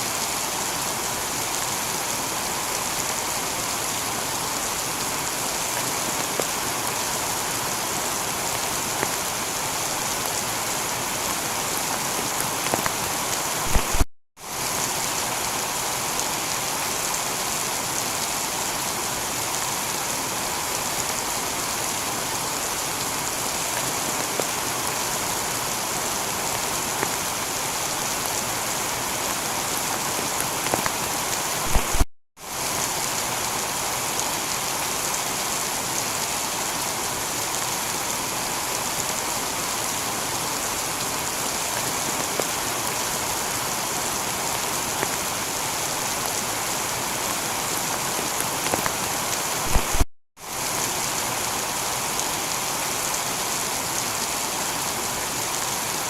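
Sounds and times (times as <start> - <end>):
heavy rain on a tiled roof: 0.0 - 56.0.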